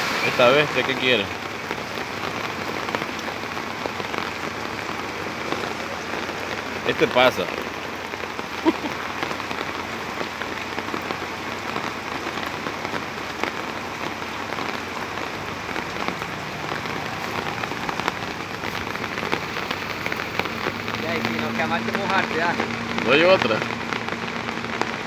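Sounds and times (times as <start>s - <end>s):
heavy rain on a flooded street: 0.0s - 25.0s.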